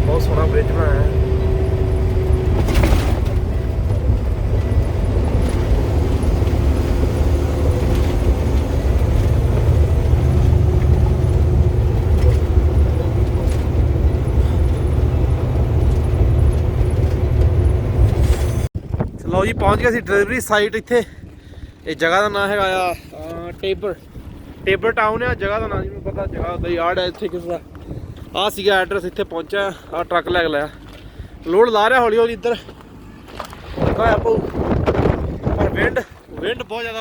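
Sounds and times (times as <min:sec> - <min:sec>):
truck engine and road drone: 0:00.0 - 0:20.4, 0:21.3 - 0:37.0.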